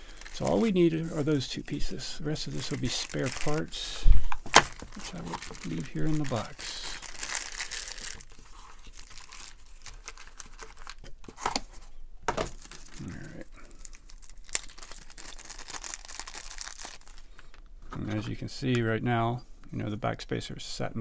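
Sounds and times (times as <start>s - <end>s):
plastic packaging crinkling: 0.0s - 18.3s.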